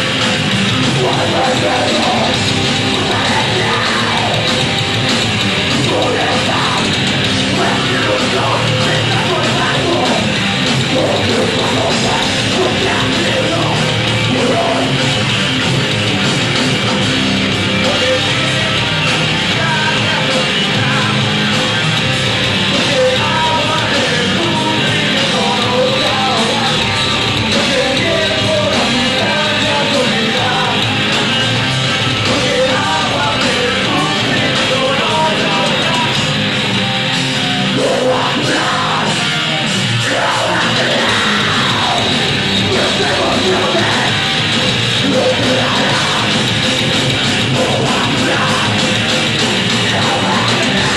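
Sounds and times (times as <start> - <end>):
shouted vocals: 0.0 - 15.4, 22.6 - 50.9
heavy metal band playing: 0.0 - 50.9.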